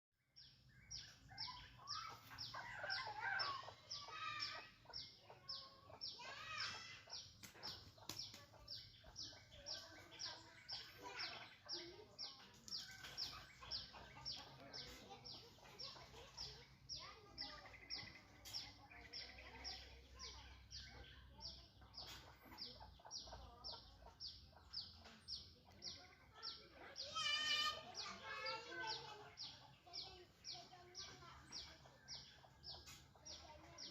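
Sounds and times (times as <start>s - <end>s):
birds calling: 0.2s - 33.9s.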